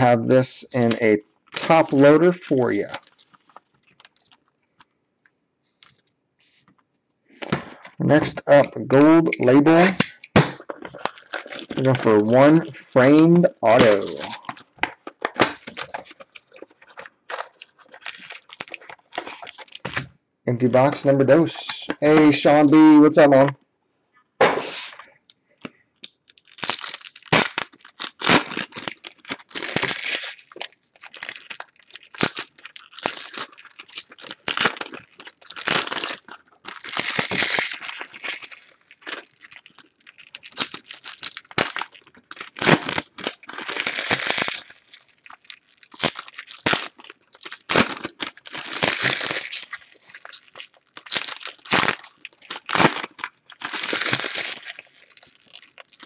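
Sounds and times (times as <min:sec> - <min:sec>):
foil wrappers tearing and crinkling: 0:00.6 - 0:04.5, 0:07.4 - 0:20.1, 0:26.0 - 0:56.0.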